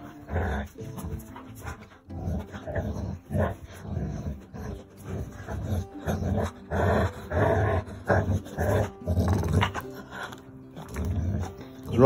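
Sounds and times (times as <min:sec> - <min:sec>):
dog growling in play: 0:00.0 - 0:12.0.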